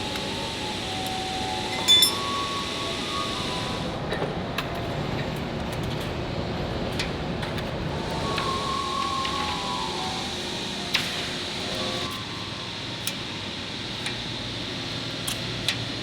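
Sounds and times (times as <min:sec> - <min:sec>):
factory machinery noise: 0:00.0 - 0:16.0.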